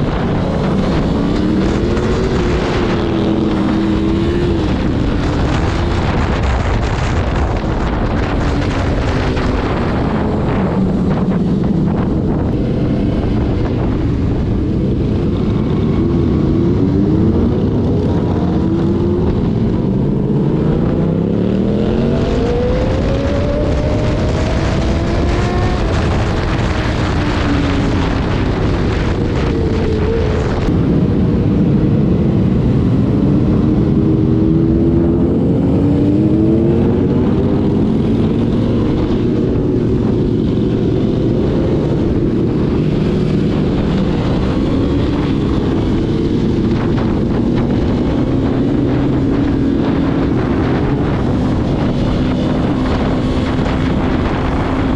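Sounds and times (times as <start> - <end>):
motorcycle engine revving: 0.0 - 54.9
wind noise from riding: 0.0 - 54.9.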